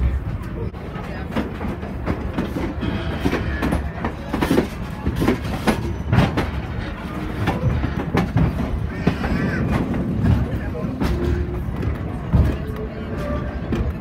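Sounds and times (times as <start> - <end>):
train coach rumbling: 0.0 - 14.0
wheel clacks and knocks: 0.9 - 14.0.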